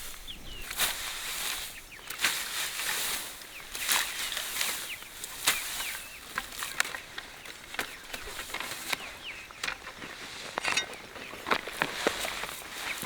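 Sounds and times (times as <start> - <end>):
rustles: 0.0 - 13.0.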